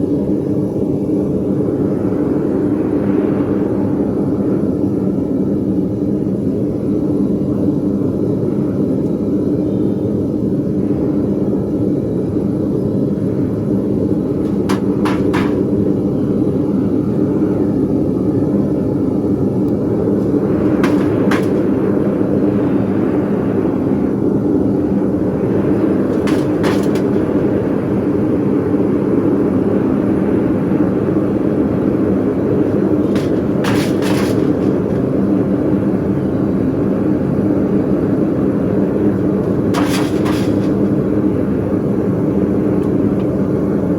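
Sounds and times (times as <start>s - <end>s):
furnace burner roaring: 0.0s - 43.9s.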